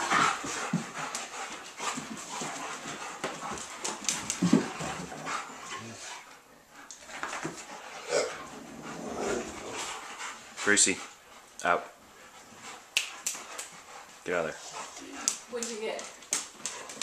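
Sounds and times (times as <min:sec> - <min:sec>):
dogs scuffling: 0:00.0 - 0:06.3, 0:06.9 - 0:17.0.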